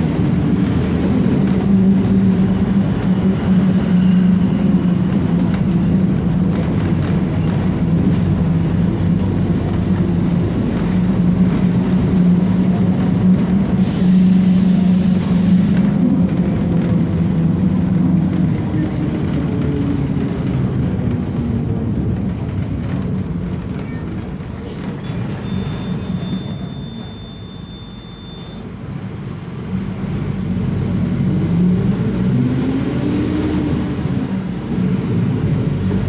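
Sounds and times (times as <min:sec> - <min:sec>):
bus diesel engine running: 0:00.0 - 0:36.0.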